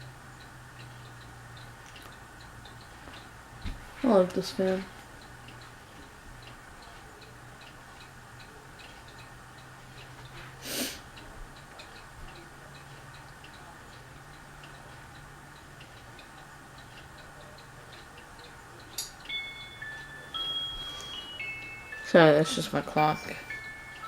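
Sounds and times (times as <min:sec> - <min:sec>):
ceiling fan humming: 0:00.0 - 0:24.0
clock ticking: 0:00.0 - 0:24.0.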